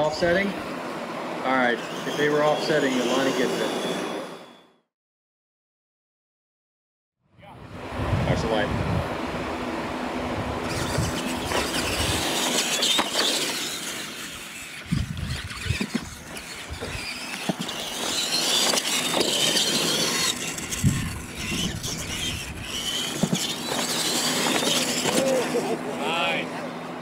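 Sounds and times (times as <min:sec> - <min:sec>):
electric motors and gears whining: 0:00.0 - 0:04.8, 0:07.6 - 0:27.0.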